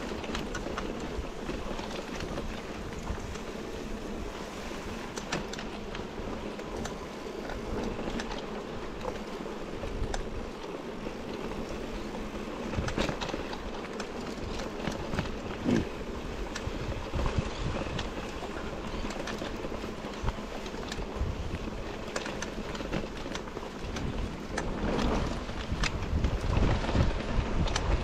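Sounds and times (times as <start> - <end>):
bike rattling over rough ground: 0.0 - 28.0
bike tyres rolling through grass: 0.0 - 28.0
wind on microphone: 0.0 - 28.0.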